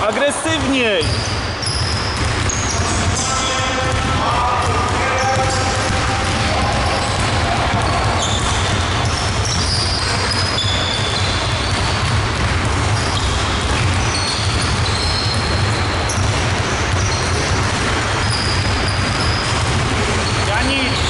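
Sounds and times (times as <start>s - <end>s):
basketballs bouncing on wooden floor: 0.0s - 21.0s
sneaker squeaks: 0.0s - 21.0s.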